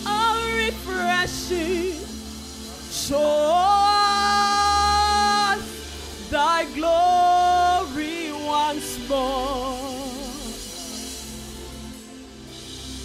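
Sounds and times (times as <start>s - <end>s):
woman singing gospel song: 0.0s - 11.1s
soft instrumental backing: 0.0s - 13.0s.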